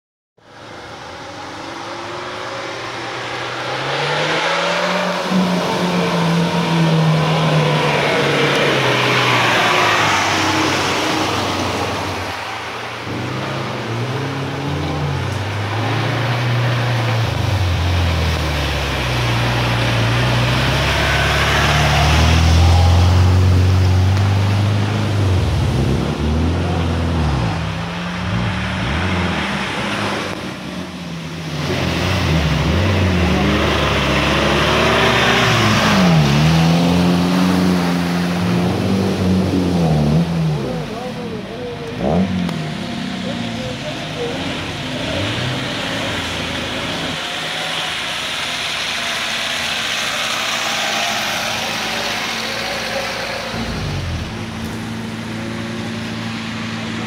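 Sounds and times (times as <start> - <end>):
car engine revving: 0.5 - 57.0.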